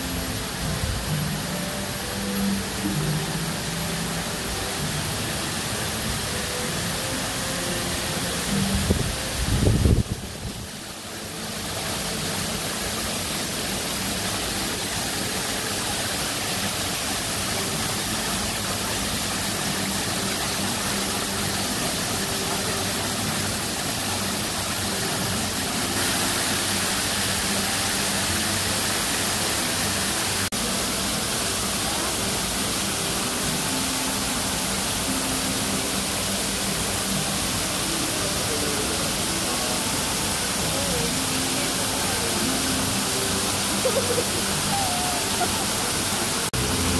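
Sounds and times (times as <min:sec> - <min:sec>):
waterfall splashing into pond: 0:00.0 - 0:46.9.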